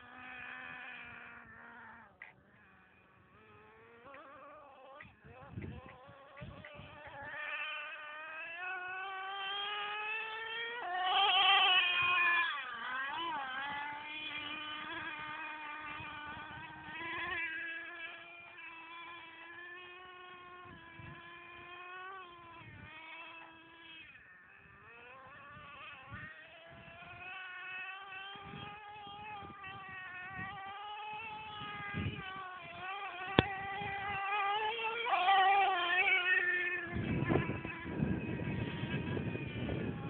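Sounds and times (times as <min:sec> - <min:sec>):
model truck engine whining: 0:00.0 - 0:40.0.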